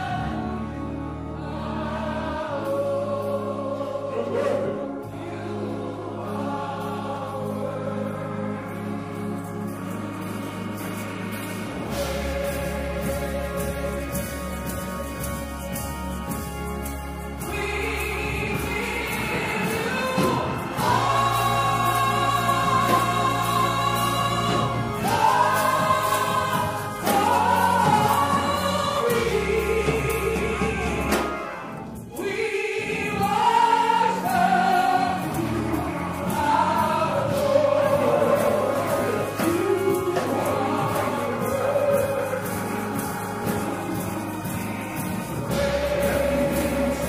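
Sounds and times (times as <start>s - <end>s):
gospel choir singing: 0.0s - 47.0s
organ and keyboard: 0.0s - 47.0s.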